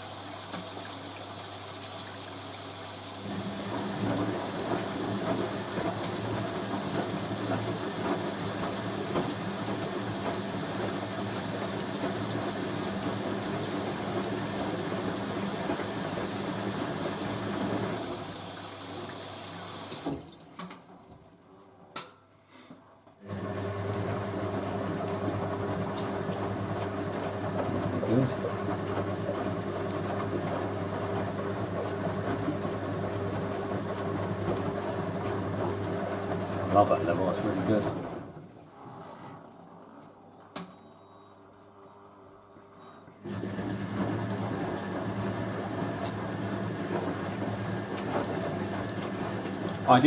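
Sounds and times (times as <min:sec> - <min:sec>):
water rushing into washing machine: 0:00.0 - 0:21.5, 0:23.2 - 0:38.7, 0:43.2 - 0:50.0
washing machine running: 0:00.0 - 0:22.0, 0:23.1 - 0:50.0.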